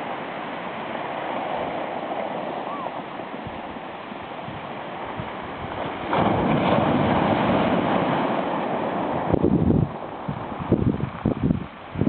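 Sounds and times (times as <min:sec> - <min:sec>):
waves washing up pebble beach: 0:00.0 - 0:12.0.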